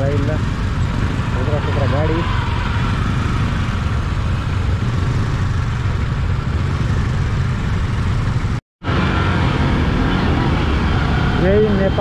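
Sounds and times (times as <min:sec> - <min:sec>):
motorcycle engine rumbling: 0:00.0 - 0:12.0
traffic engines: 0:00.0 - 0:12.0.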